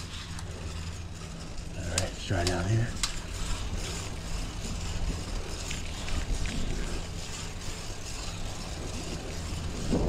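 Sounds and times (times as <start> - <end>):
road and traffic rumble: 0.0 - 10.0
wind buffeting microphone: 0.0 - 10.0.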